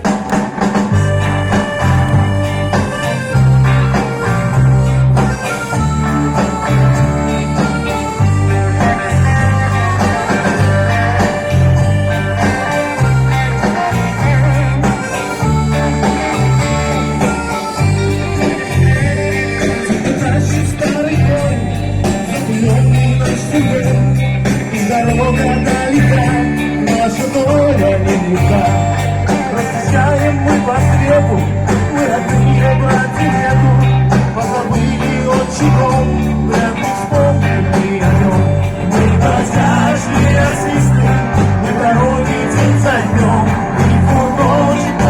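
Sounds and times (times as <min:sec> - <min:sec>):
electric guitar: 0:00.0 - 0:45.0
pulsing bass line: 0:00.0 - 0:45.0
steady drum beat: 0:00.0 - 0:45.0
person singing: 0:01.4 - 0:45.0.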